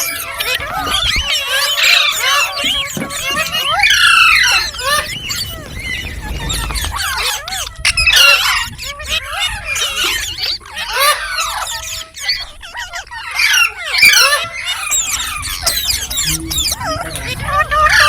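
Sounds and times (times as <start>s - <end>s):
parrot chirping and squawking: 0.0s - 18.0s.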